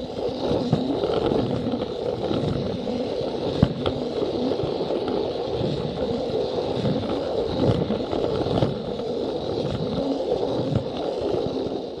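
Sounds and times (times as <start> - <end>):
faint motor whine: 0.0 - 12.0.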